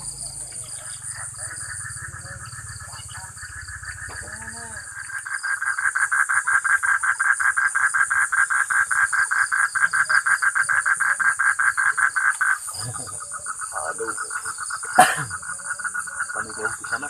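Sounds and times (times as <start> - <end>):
frog calling in rapid pulses: 0.0 - 17.0
insects trilling: 0.0 - 17.0.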